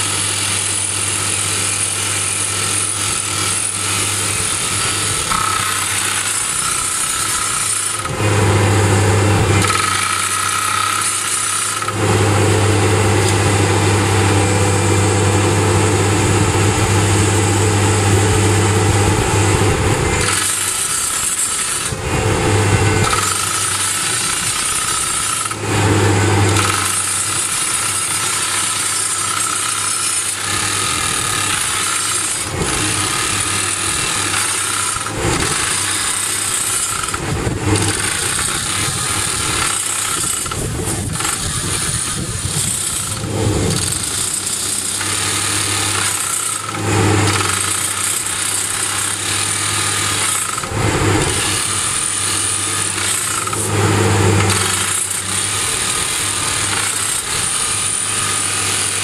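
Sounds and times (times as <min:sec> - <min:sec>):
engine drone: 0:00.0 - 0:59.0
rock drill hammering: 0:00.0 - 0:59.0.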